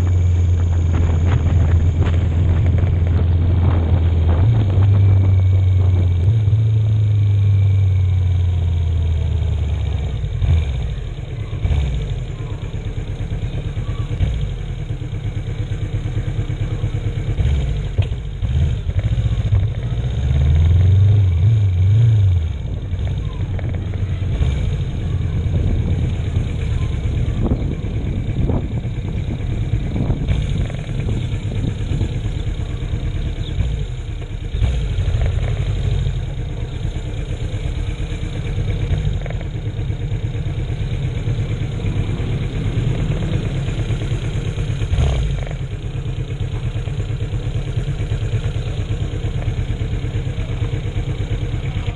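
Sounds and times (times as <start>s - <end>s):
motorcycle engine revving and riding: 0.0s - 51.9s.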